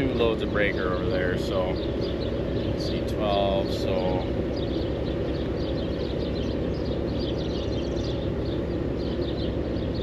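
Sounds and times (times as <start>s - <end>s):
diesel engine rumbling: 0.0s - 10.0s
small birds chirping: 0.0s - 10.0s.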